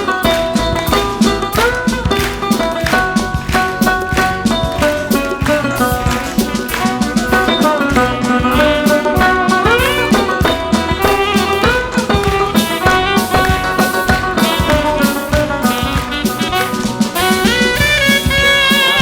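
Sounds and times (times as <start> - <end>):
band playing lively tune: 0.0 - 19.0
sarod melody with sliding notes: 0.0 - 19.0.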